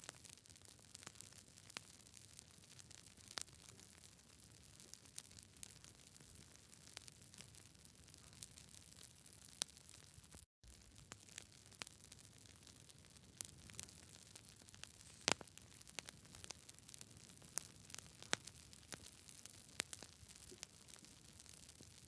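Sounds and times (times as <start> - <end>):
campfire crackling and popping: 0.1 - 22.0.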